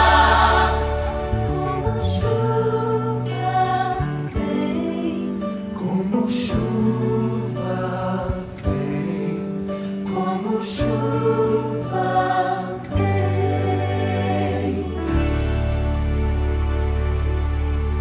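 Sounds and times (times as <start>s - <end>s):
choir singing held notes: 0.0s - 15.8s.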